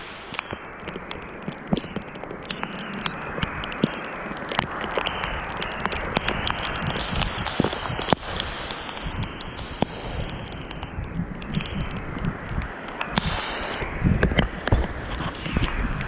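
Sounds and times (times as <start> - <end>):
rain falling on a creek: 0.0 - 16.0
raindrops ticking near microphone: 0.0 - 16.0.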